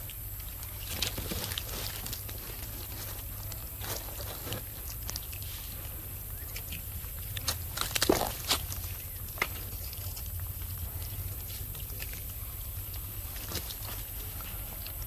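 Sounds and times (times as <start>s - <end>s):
monkeys eating: 0.0s - 15.0s
steady low rumble: 0.0s - 15.0s.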